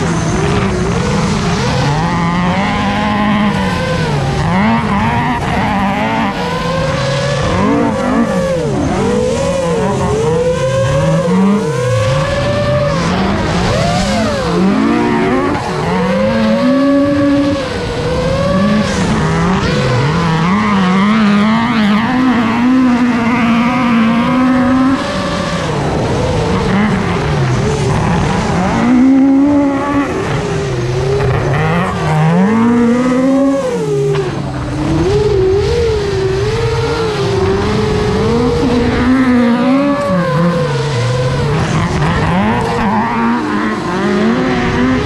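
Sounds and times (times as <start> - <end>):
drone propellers whining: 0.0 - 45.0.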